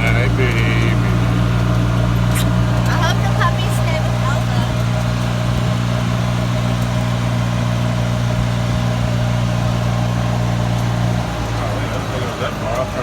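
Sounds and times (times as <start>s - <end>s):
golf cart humming: 0.0s - 13.0s.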